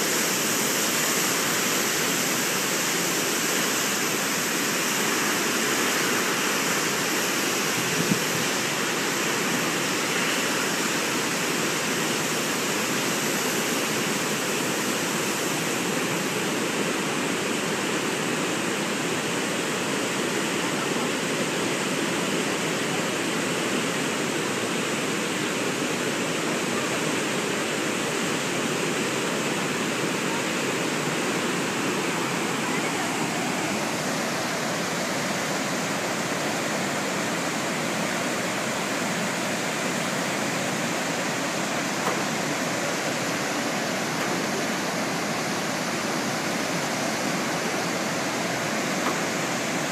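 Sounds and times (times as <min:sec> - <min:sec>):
water rushing and falling: 0:00.0 - 0:49.9.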